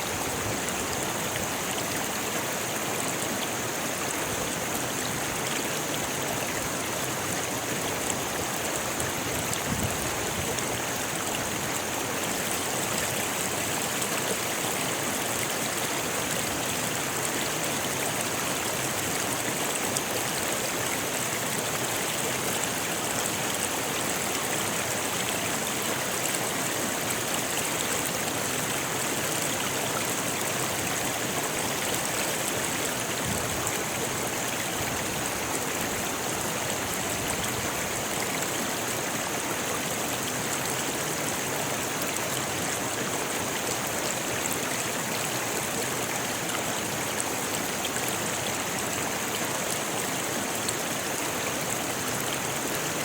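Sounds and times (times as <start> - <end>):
water rushing over stones: 0.0 - 53.0.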